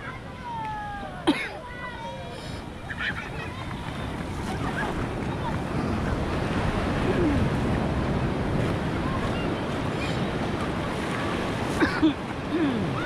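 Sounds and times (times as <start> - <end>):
surf washing over wet sand: 0.3 - 13.0.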